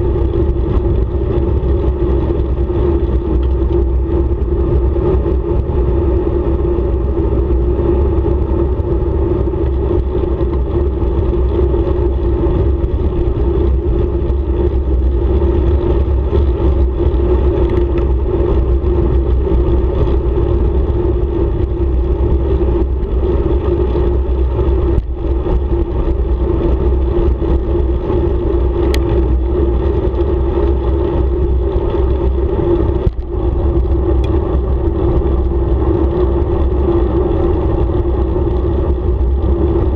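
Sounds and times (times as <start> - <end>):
bicycle tyres rumbling on asphalt: 0.0 - 39.9
wind rushing over microphone: 0.0 - 39.9.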